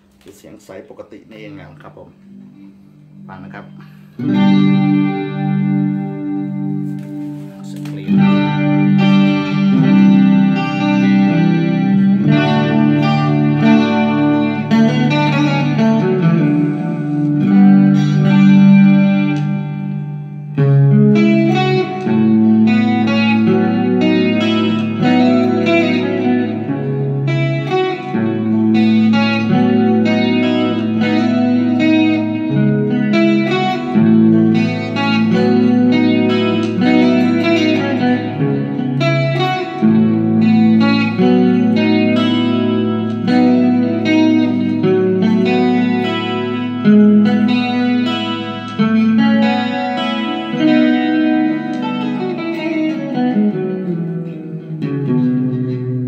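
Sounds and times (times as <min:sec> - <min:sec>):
clean electric guitar: 0:00.0 - 0:56.0.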